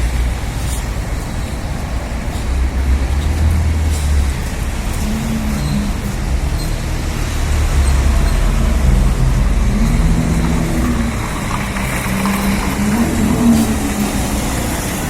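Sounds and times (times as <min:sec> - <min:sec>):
engine drone: 0:00.0 - 0:15.0
heavy low rumble: 0:00.0 - 0:15.0
tyre noise: 0:00.0 - 0:15.0
vehicle engines running: 0:00.0 - 0:15.0.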